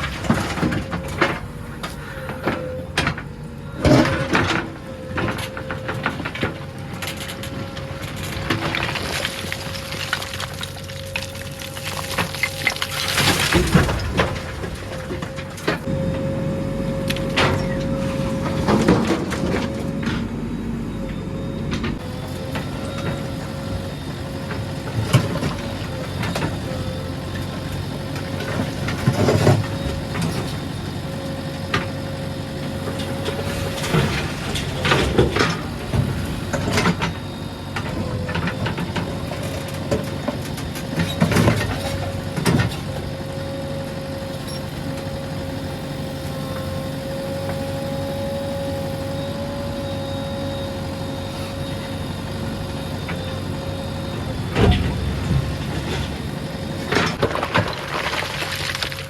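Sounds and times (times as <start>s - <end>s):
diesel engine running with whine: 0.0s - 59.0s.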